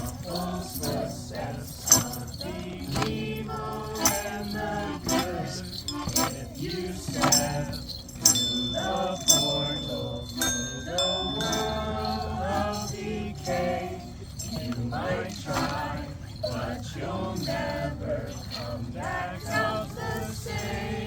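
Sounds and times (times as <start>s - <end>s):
high ringing bell-like tones: 0.0s - 21.0s
music with jingling bells: 0.0s - 21.0s.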